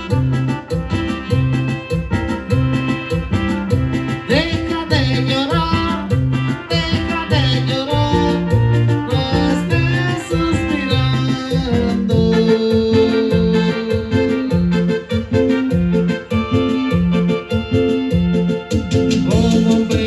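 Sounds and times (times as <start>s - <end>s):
live latin dance band: 0.0s - 20.0s
vibrato lead melody: 0.0s - 20.0s.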